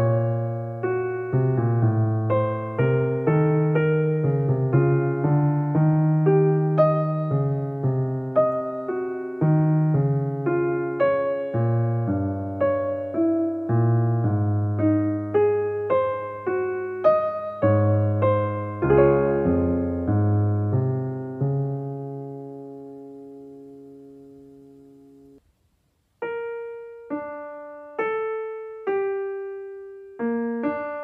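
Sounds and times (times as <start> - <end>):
solo piano music: 0.0 - 31.0.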